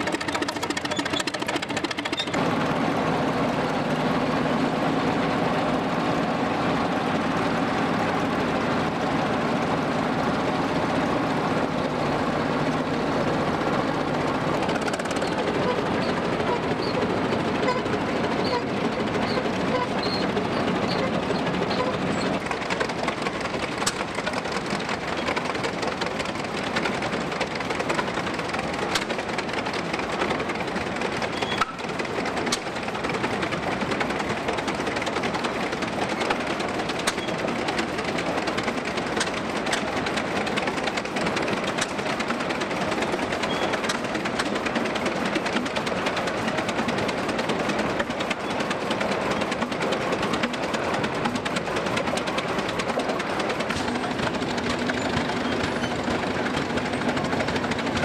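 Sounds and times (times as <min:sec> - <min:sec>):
tractors driving on dirt: 0:00.0 - 0:58.0.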